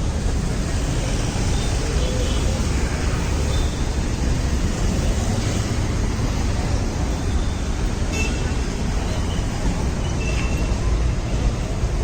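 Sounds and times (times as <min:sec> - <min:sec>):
vehicle and road rumble: 0:00.0 - 0:12.0.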